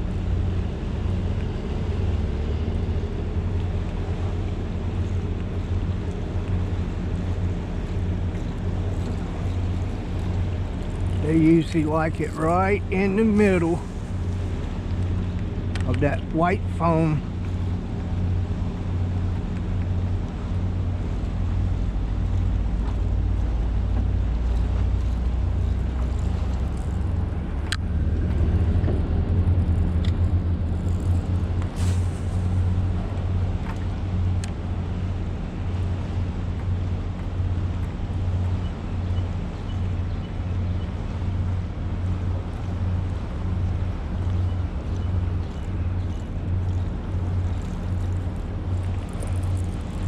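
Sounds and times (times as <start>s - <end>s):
boat motor humming: 0.0s - 50.0s.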